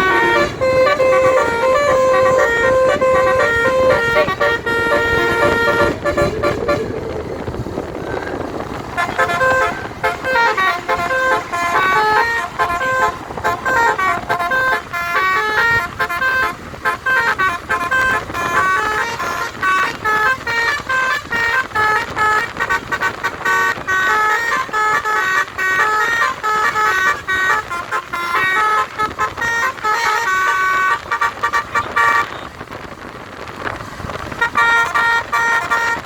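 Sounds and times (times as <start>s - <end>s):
musical air horn melody: 0.0s - 32.5s, 34.4s - 36.0s.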